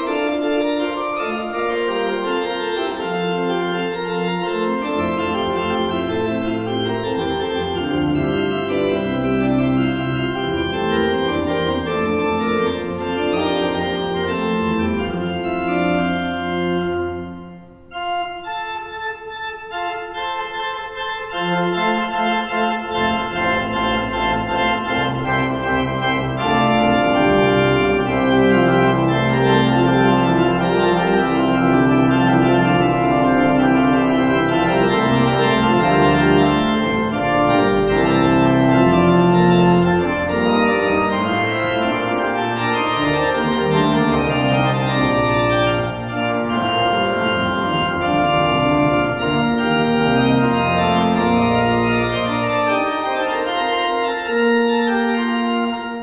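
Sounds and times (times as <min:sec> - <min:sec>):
deep organ pedal bass notes: 0:00.0 - 0:56.0
pipe organ chords: 0:00.0 - 0:56.0.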